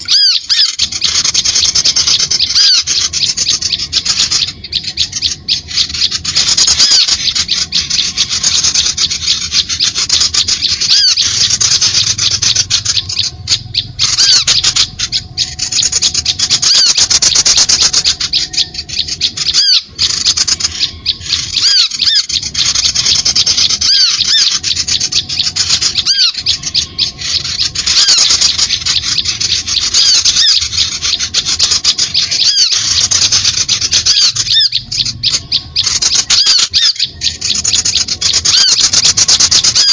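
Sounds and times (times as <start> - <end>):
rapid high-pitched bird chattering: 0.0 - 39.9.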